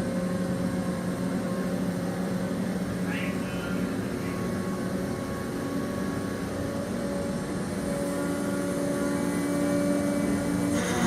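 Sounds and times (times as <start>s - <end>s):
machine engine drone: 0.0s - 11.0s.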